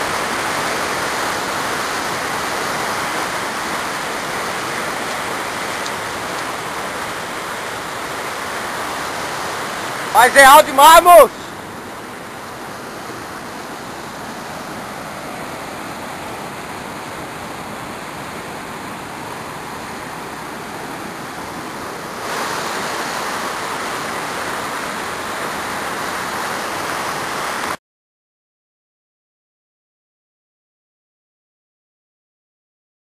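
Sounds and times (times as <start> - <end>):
waterfall rushing: 0.0 - 27.8.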